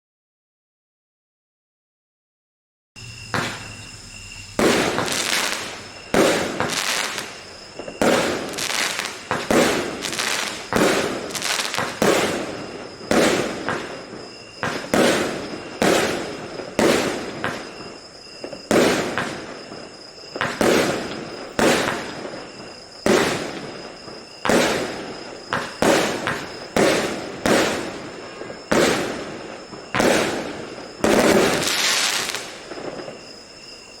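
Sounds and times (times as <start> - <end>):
fireworks shots: 3.0 - 34.0.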